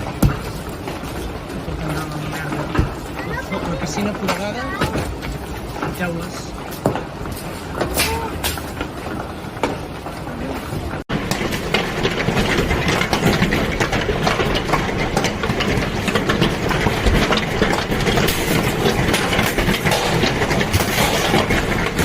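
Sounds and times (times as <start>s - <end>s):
hailstones striking hard surfaces: 0.0s - 22.0s.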